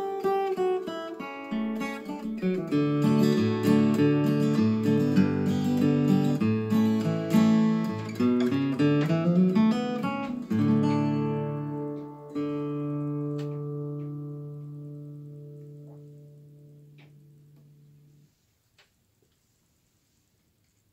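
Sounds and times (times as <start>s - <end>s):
acoustic guitar picking and chords: 0.0s - 18.4s.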